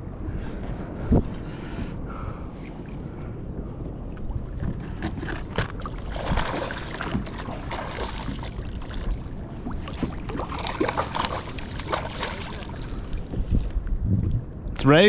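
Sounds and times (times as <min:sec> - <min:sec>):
water splashing against hull: 0:00.0 - 0:13.8
wind noise on microphone: 0:00.0 - 0:15.0.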